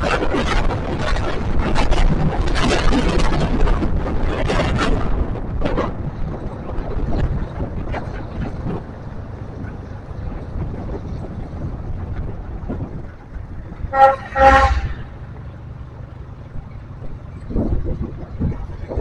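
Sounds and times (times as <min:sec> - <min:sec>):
road noise: 0:00.0 - 0:19.0
truck engine noise: 0:00.0 - 0:19.0
wind rushing over microphone: 0:00.0 - 0:19.0.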